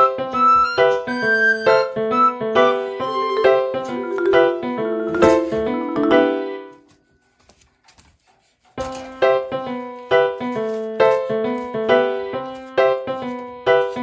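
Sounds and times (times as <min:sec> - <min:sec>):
background piano music: 0:00.0 - 0:07.0, 0:08.9 - 0:14.0.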